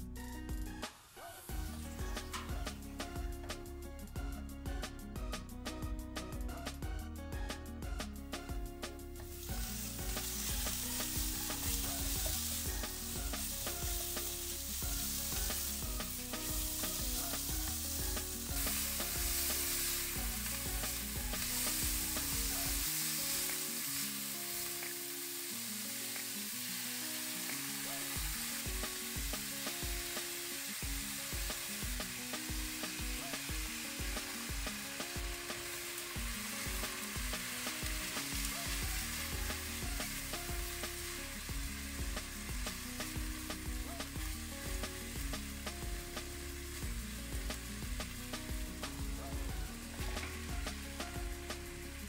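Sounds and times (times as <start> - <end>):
quiet background music: 0.0 - 52.0
pork sizzling in hot oil: 0.2 - 5.8, 9.1 - 52.0.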